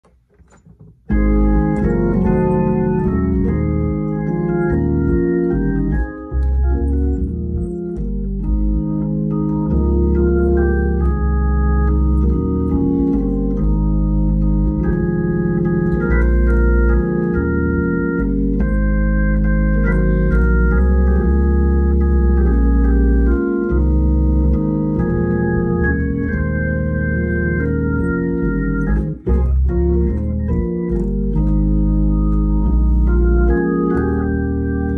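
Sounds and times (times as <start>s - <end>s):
organ playing held chords: 1.0s - 34.9s
deep bass: 1.1s - 34.9s.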